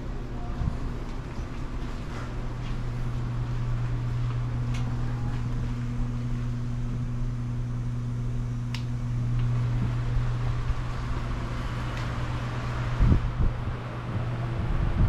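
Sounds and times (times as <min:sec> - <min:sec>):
ventilation hum: 0:00.0 - 0:15.0.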